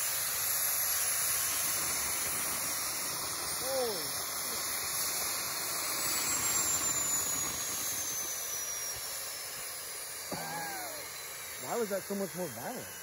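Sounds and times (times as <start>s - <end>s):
faint high turbo whine: 0.0s - 13.0s
turbo and fire loud hiss: 0.0s - 13.0s.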